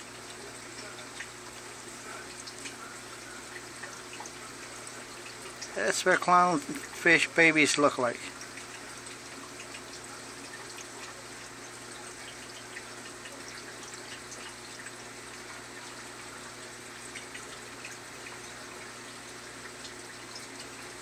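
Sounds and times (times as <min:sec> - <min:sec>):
water trickling and bubbling: 0:00.0 - 0:21.0.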